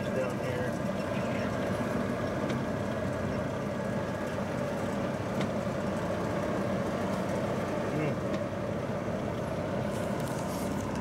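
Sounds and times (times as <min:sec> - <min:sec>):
truck cab noise: 0:00.0 - 0:11.0.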